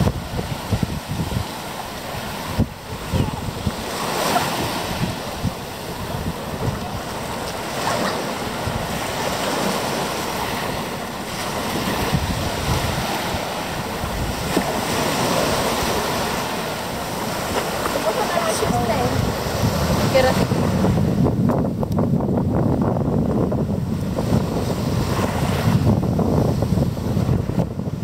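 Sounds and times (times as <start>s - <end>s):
surf washing on beach: 0.0s - 28.0s
wind buffeting microphone: 0.0s - 28.0s.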